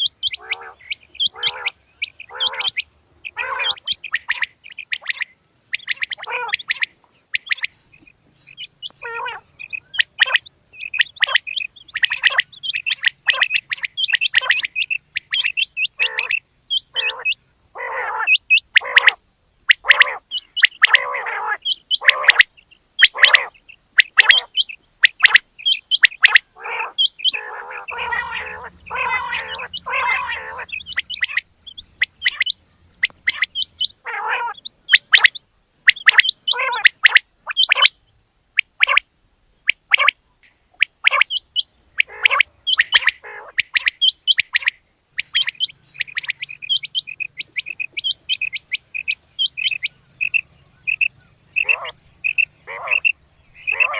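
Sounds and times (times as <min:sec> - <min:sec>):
quail calling: 0:00.0 - 0:38.0, 0:38.6 - 0:40.2, 0:40.8 - 0:53.9.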